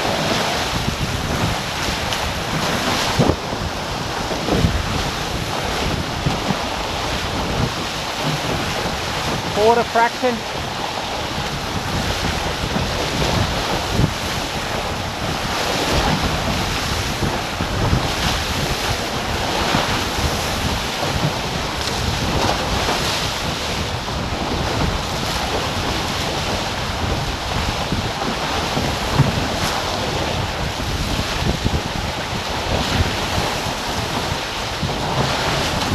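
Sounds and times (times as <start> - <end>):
water rushing past hulls: 0.0 - 35.9
wind buffeting microphone: 0.0 - 35.9.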